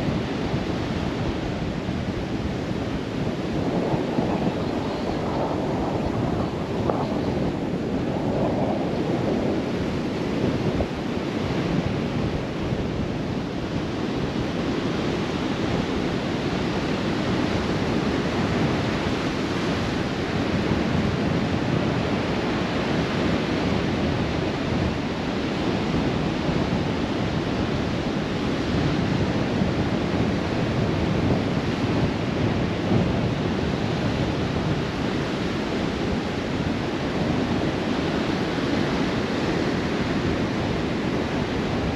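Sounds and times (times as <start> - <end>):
ocean surf on beach: 0.0 - 41.9
wind rushing over microphone: 0.0 - 41.9.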